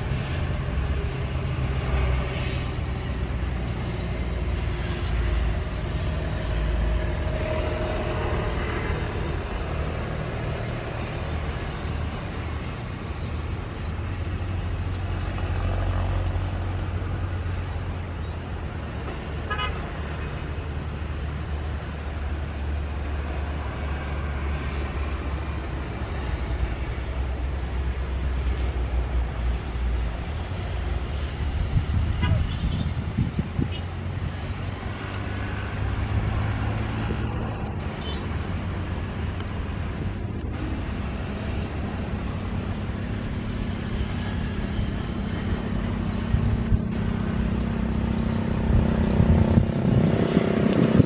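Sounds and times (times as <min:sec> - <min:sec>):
vehicle engines rumbling: 0:00.0 - 0:51.0.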